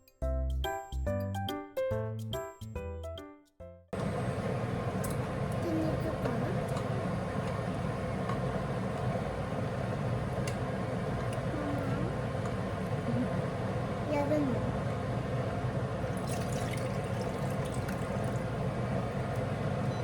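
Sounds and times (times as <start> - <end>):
low background hum: 4.0 - 20.0.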